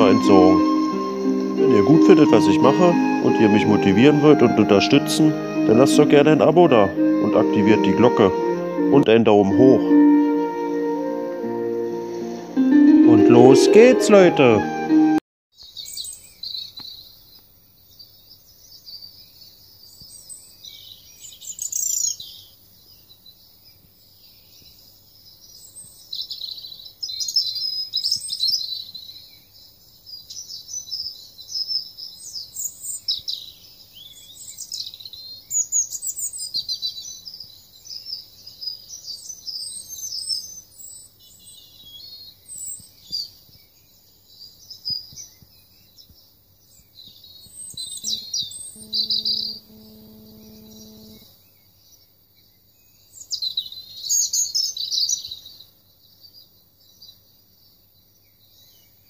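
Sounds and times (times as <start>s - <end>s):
small birds chirping and singing: 0.0s - 9.9s, 15.6s - 59.0s.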